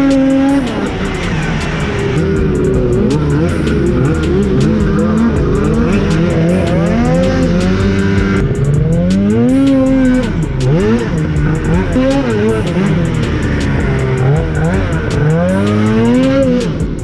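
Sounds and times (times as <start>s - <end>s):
snowmobile engine revving: 0.0s - 16.9s.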